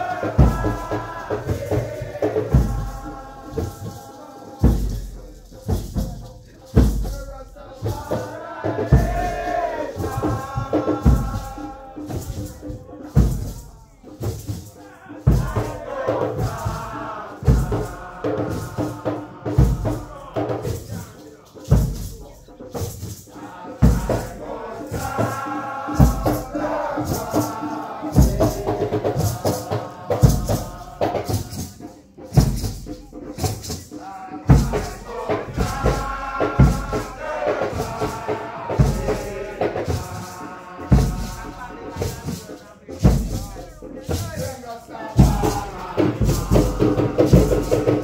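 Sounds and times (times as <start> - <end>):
group of voices chanting: 0.0 - 22.1, 22.7 - 48.0
deep irregular drum beats: 0.0 - 48.0
shaker rattling: 0.0 - 48.0.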